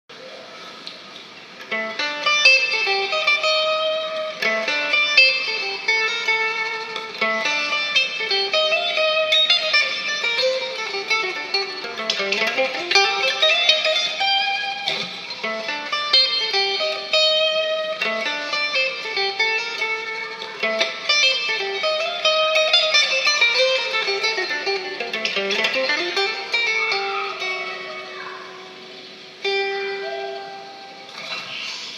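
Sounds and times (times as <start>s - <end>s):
electric guitar picking melody: 1.1s - 31.8s.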